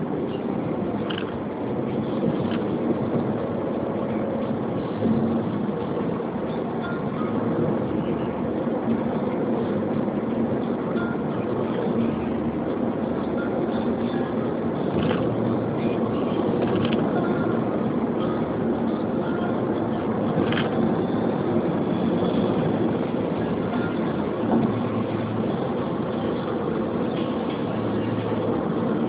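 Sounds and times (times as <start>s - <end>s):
car cabin road noise: 0.0s - 29.0s.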